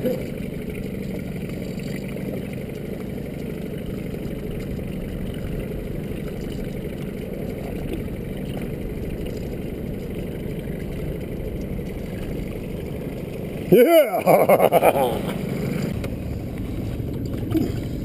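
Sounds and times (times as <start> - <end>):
boat motor idling: 0.0 - 18.0.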